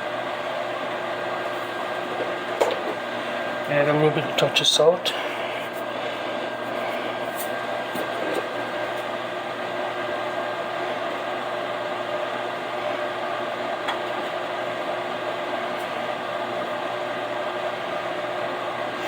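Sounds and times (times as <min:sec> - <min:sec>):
appliance fan motor humming: 0:00.0 - 0:19.0.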